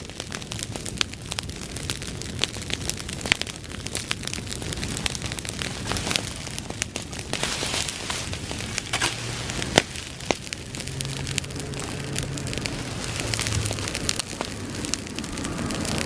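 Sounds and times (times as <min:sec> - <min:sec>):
crackling and popping fire: 0:00.0 - 0:16.0
grass fire burning: 0:00.0 - 0:16.0.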